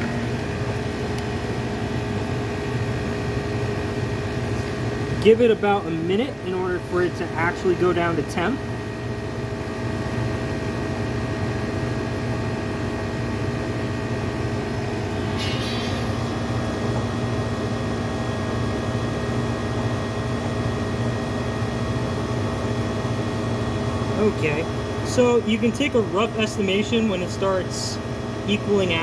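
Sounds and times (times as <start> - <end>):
air conditioner hum: 0.0 - 29.0.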